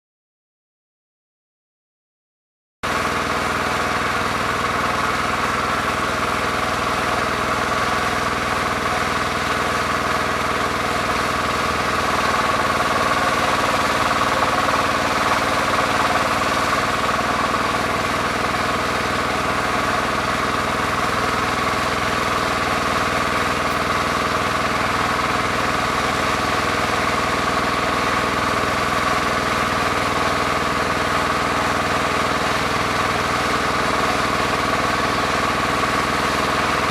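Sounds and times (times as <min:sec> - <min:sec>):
diesel engine running: 0:02.9 - 0:36.9.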